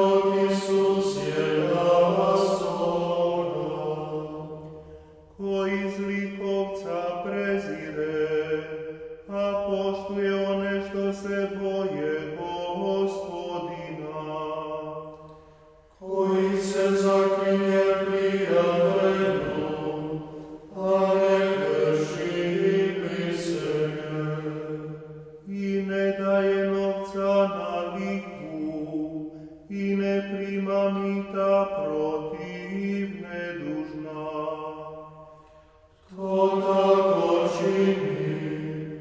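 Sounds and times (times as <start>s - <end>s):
male choir chanting in harmony: 0.0s - 15.4s, 16.0s - 39.0s.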